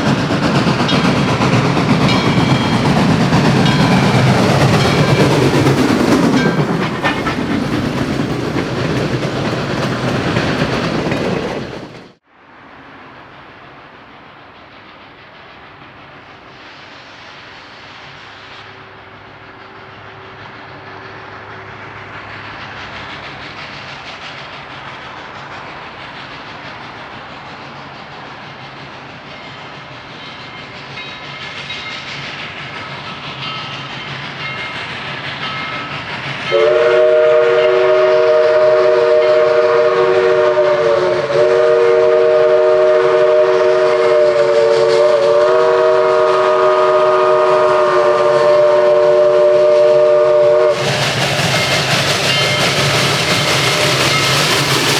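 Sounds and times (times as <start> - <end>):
steam locomotive running: 0.0 - 54.9.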